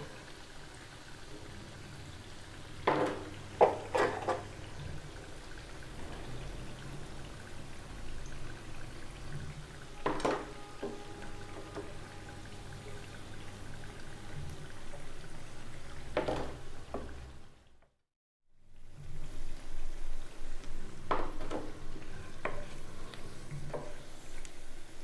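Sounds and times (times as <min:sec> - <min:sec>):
patties sizzling in oil: 0:00.0 - 0:17.7, 0:18.6 - 0:25.0.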